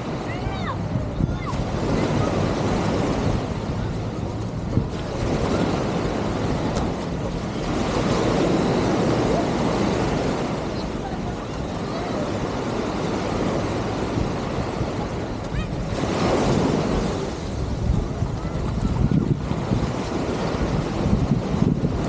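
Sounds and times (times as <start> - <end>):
surf washing on beach: 0.0 - 22.0
wind buffeting microphone: 0.0 - 22.0.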